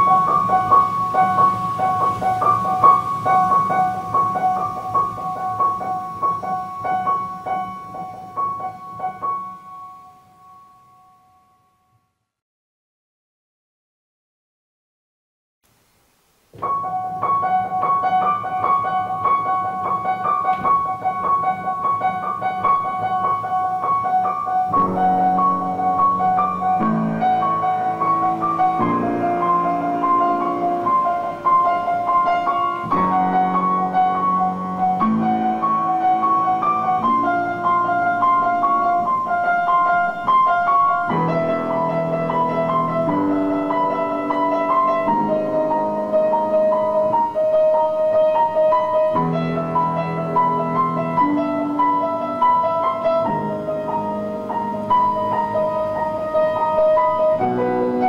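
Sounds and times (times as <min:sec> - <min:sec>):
piano music: 0:00.0 - 0:11.9, 0:16.6 - 0:58.0.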